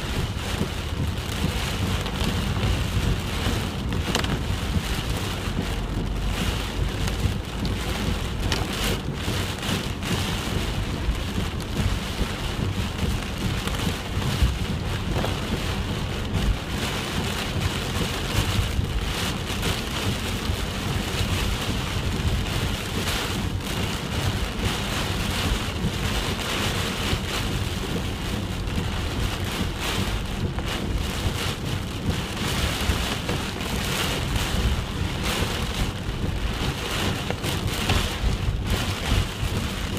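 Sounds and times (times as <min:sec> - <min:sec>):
continuous low rumble: 0:00.0 - 0:39.9
heavy rain pouring: 0:00.0 - 0:39.9.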